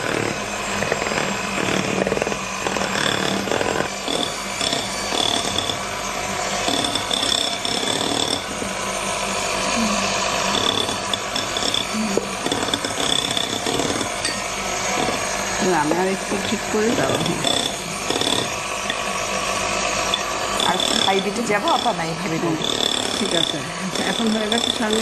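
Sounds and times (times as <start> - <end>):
electric hand mixer humming: 0.0 - 25.0.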